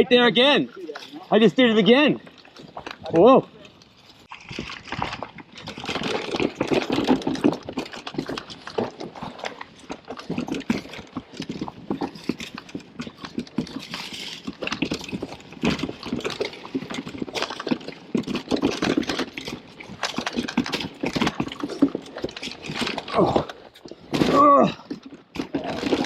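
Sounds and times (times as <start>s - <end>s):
mountain bike rattling on trail: 0.0s - 26.0s.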